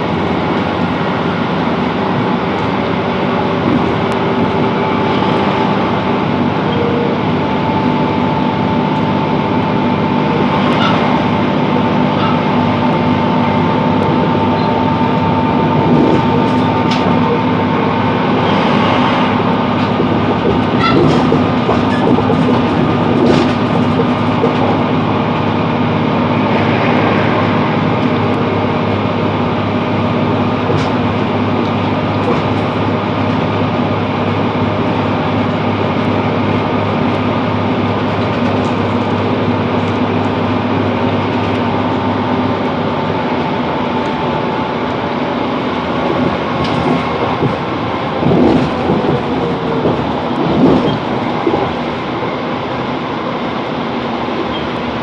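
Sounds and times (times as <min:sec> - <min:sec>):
diesel engine drone: 0:00.0 - 0:55.0
wheels rumbling on rails: 0:00.0 - 0:55.0.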